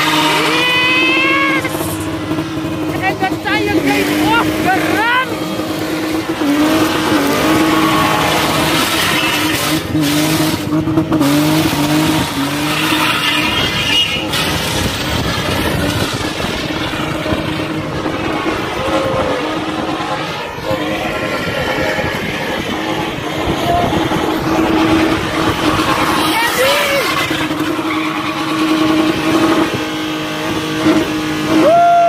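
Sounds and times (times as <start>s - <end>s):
tyres squealing: 0.0s - 10.0s, 12.1s - 29.5s
car engine at high revs: 0.0s - 32.0s.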